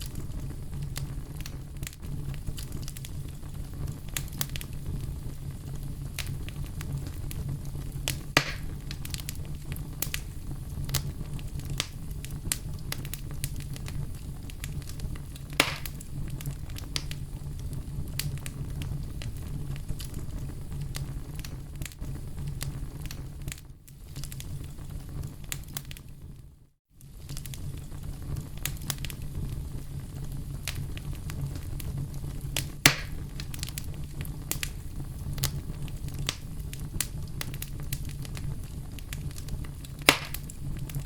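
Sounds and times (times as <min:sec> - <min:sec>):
burning wood crackling and popping: 0:00.0 - 0:41.0
campfire flames rumbling: 0:00.0 - 0:41.0.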